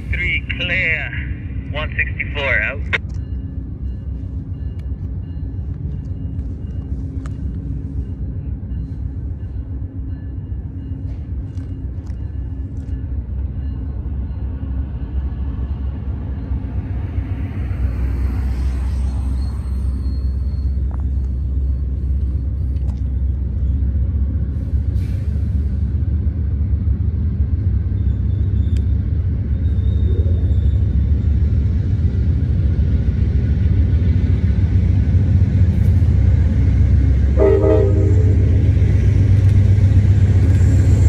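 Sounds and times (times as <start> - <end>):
diesel train rumble: 0.0 - 41.0.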